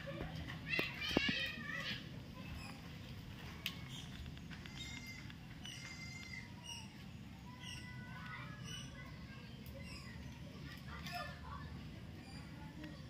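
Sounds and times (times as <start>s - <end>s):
low background hum: 0.0s - 13.0s
birds chirping: 0.7s - 13.0s.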